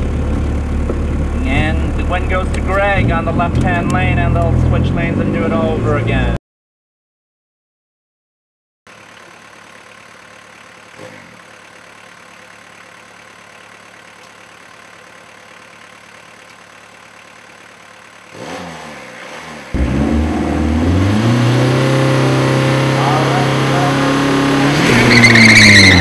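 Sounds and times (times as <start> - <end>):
car engine idling and revving: 0.0 - 6.4, 8.9 - 26.0.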